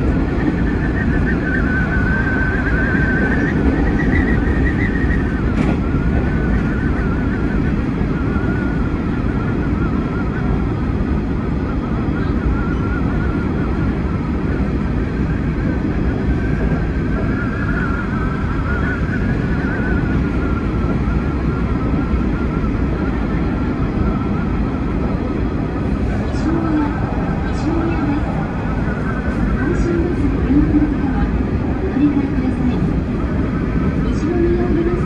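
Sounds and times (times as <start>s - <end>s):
high whine of electric train: 0.0s - 35.0s
train wheels rumbling on rail: 0.0s - 35.0s.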